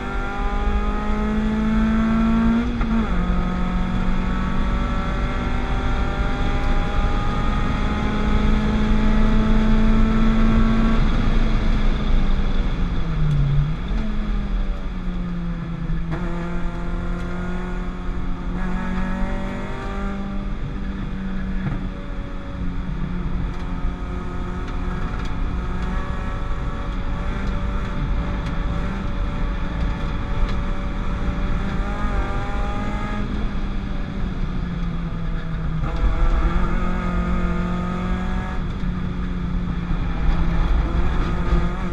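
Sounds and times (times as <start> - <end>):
car engine revving hard: 0.0 - 13.0, 16.0 - 41.9.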